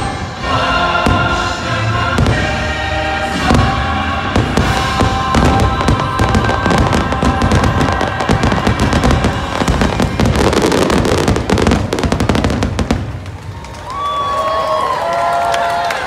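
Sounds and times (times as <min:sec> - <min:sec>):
loud show music: 0:00.0 - 0:12.9
fireworks bangs and crackles: 0:00.0 - 0:14.2.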